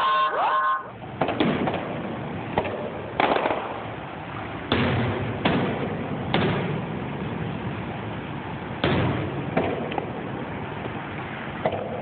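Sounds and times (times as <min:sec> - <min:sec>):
fireworks bangs with rumbling echo: 0:01.0 - 0:11.0.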